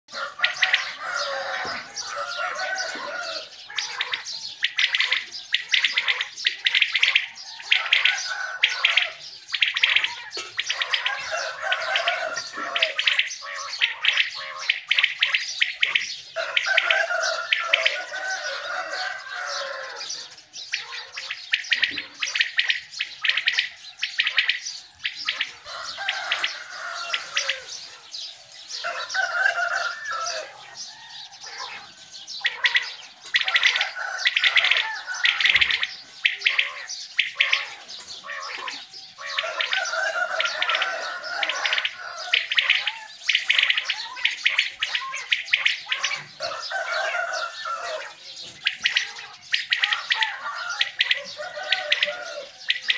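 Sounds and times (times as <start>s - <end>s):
quails calling: 0.1s - 52.9s.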